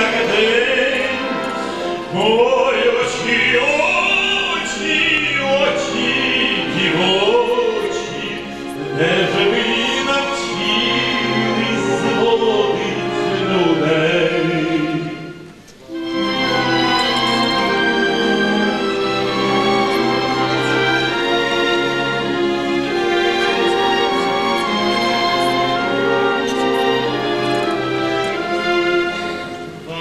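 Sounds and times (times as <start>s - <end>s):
man singing operatic tenor: 0.0s - 30.0s
string orchestra: 0.0s - 30.0s.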